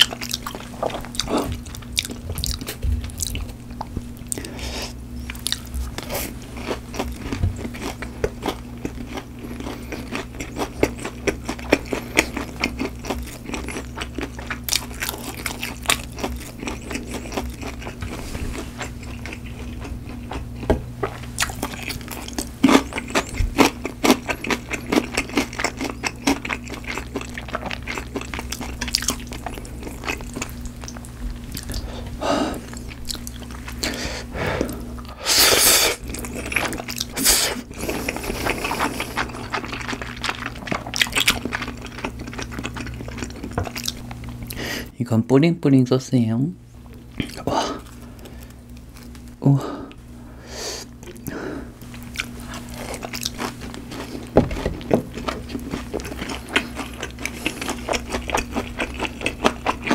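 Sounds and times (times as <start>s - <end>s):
crunchy chewing: 0.0s - 44.8s, 46.8s - 50.1s, 50.8s - 59.9s.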